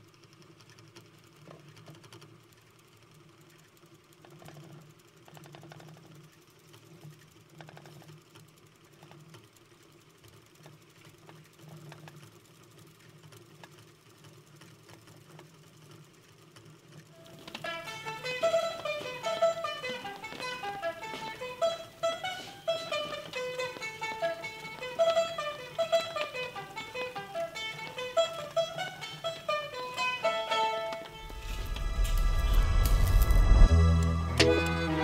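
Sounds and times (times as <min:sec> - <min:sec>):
small machine clicking rattle: 0:00.0 - 0:31.3.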